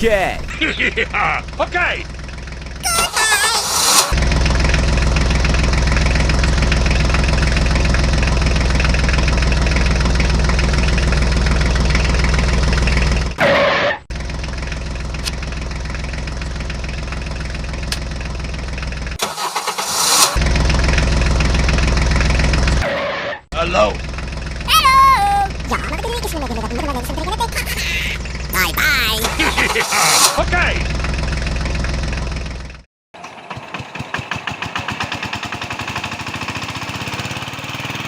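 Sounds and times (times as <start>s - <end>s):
tractor engine running: 0.0s - 13.4s, 14.0s - 38.0s.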